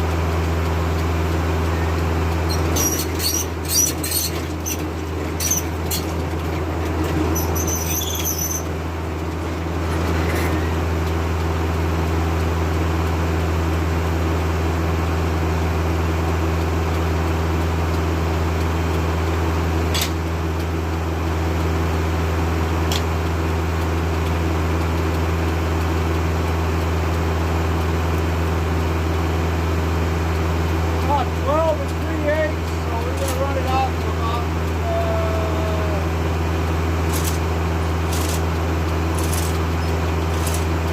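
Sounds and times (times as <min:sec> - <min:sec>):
tractor driving circular sawmill: 0:00.0 - 0:40.9.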